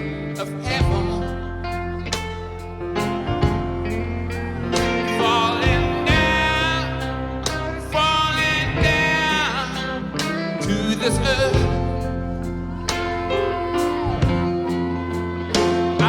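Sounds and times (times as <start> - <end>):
person singing: 0.0 - 16.0
rock band playing soul ballad: 0.0 - 16.0.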